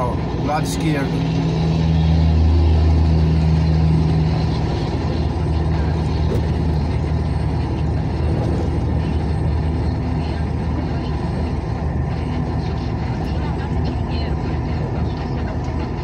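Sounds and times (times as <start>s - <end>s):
road noise on wet road: 0.0s - 16.0s
vehicle engine droning: 0.0s - 16.0s.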